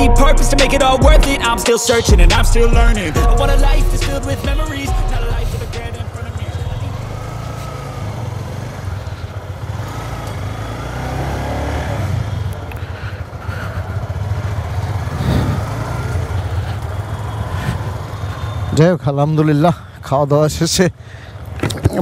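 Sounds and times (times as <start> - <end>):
motorcycle engine low rumble: 2.1 - 22.0.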